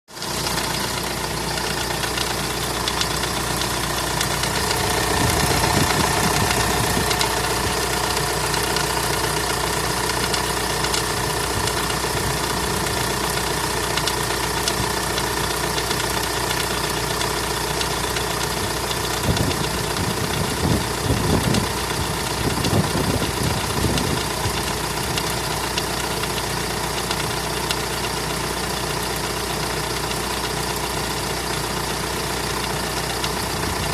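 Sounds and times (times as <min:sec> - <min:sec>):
engine idling: 0:00.1 - 0:33.9
engine knock: 0:00.1 - 0:33.9.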